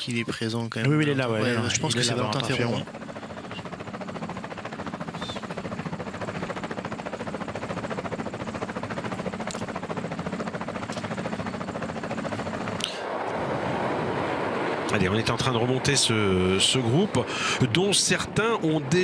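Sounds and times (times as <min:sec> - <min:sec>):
pulsing motor drone: 0:01.2 - 0:19.0.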